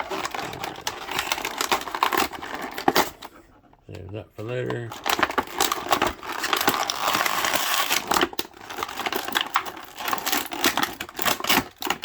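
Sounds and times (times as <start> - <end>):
plastic packaging crinkling: 0.0 - 3.3, 4.4 - 12.0.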